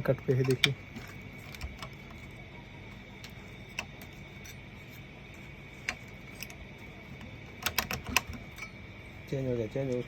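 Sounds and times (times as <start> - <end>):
faint hum and whine: 0.0 - 10.0.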